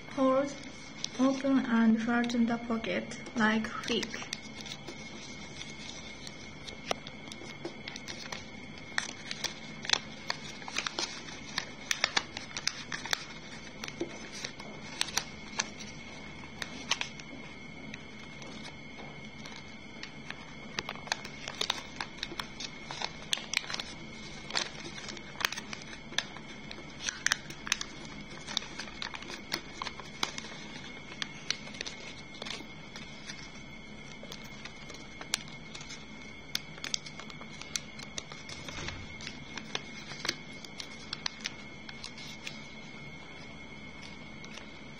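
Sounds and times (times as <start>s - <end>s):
paper folding and crackling: 0.0s - 2.6s, 3.3s - 44.9s.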